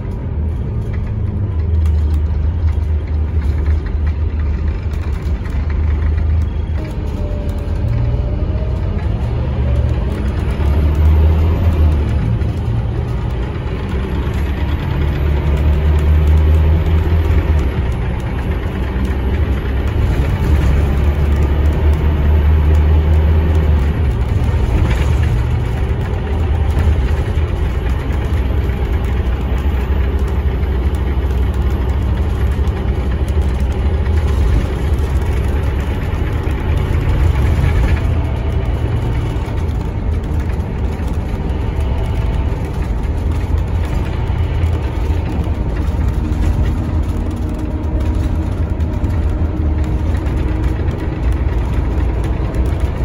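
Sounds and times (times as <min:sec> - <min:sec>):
bus diesel engine: 0:00.0 - 0:53.0.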